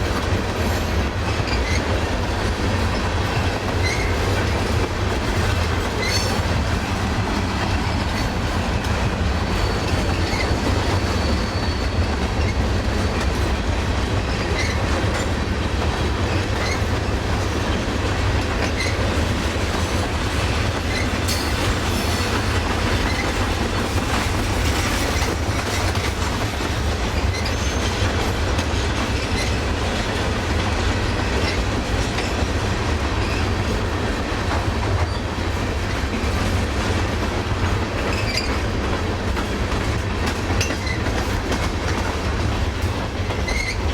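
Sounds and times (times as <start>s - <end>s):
railroad cars rumbling: 0.0s - 43.9s.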